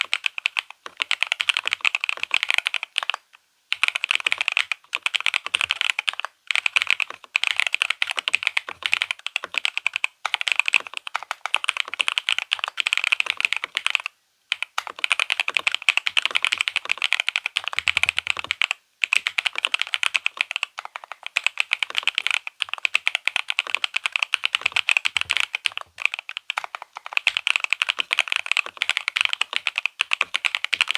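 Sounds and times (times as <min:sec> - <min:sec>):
mechanical keyboard typing: 0:00.0 - 0:30.9.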